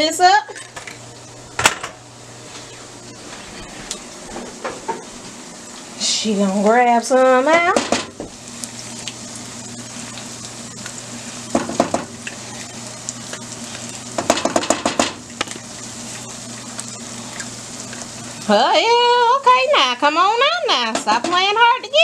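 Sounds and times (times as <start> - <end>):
meat and peppers sizzling: 0.0 - 22.0.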